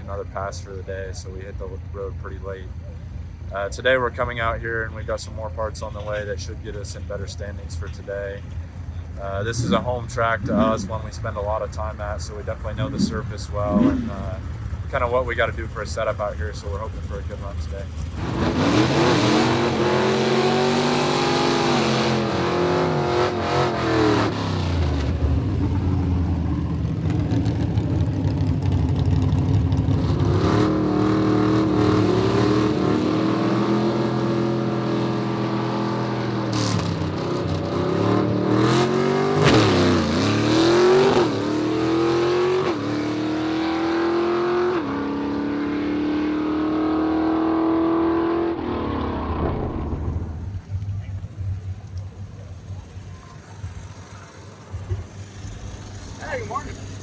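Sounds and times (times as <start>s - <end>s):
race car engine revving: 7.1s - 57.0s.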